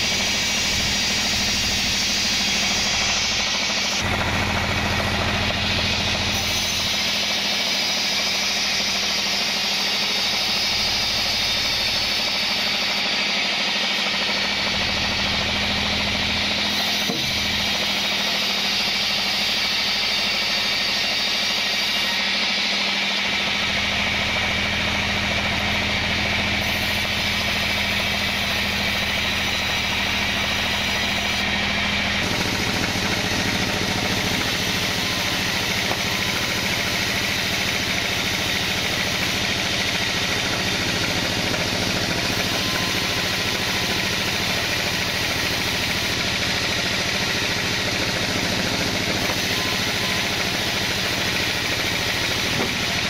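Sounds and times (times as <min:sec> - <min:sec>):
band sawmill cutting logs: 0:00.0 - 0:53.0.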